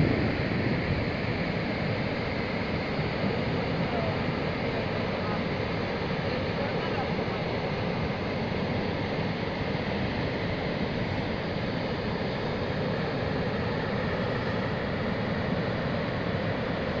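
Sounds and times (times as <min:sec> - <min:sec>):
waterfall rushing and rumbling: 0:00.0 - 0:17.0.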